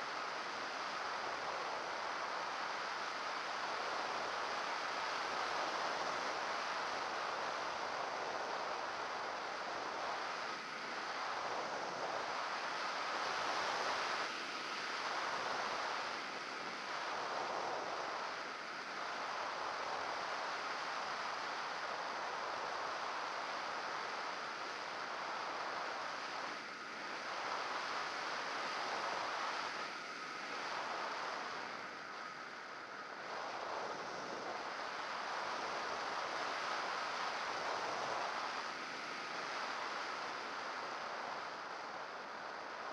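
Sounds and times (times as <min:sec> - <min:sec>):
wind rushing over camera: 0:00.1 - 0:42.9.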